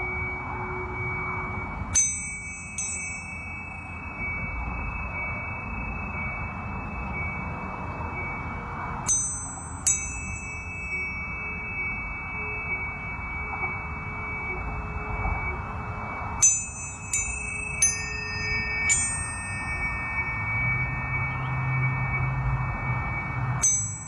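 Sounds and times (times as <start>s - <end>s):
tuning forks struck ringing: 0.0s - 24.0s.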